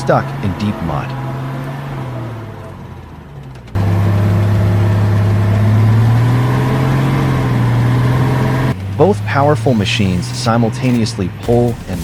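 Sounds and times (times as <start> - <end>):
heavy truck engines under load: 0.0 - 12.0.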